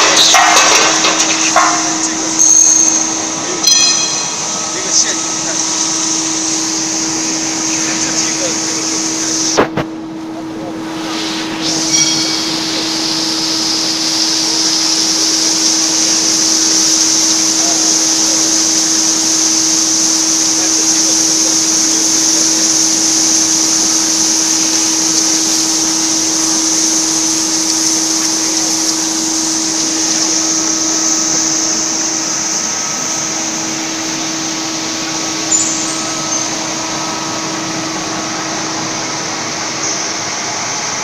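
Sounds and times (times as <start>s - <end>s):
low machine hum: 0.0s - 41.0s
steady high hiss: 0.0s - 41.0s.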